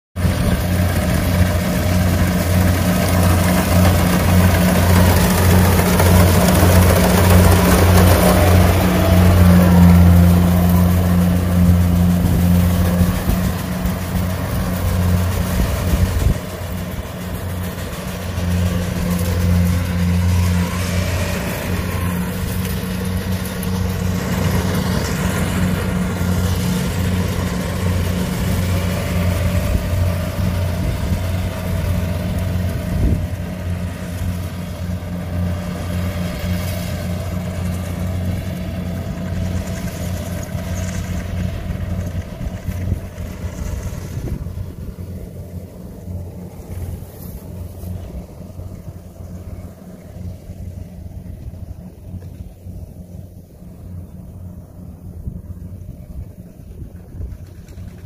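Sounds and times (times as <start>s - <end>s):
combine harvester engine hum: 0.2s - 58.0s.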